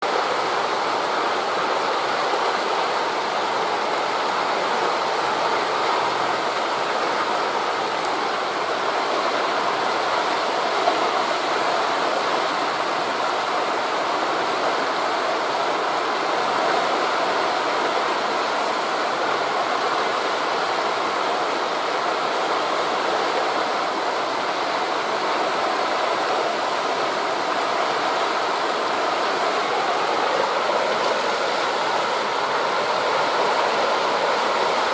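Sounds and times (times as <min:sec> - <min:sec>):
wind through forest leaves: 0:00.0 - 0:34.9
distant surf: 0:00.1 - 0:34.9.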